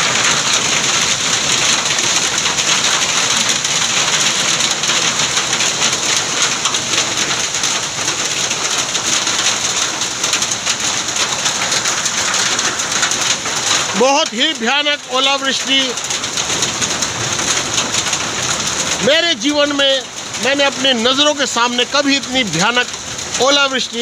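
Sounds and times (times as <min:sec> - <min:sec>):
hail and rain pelting ground: 0:00.0 - 0:24.0.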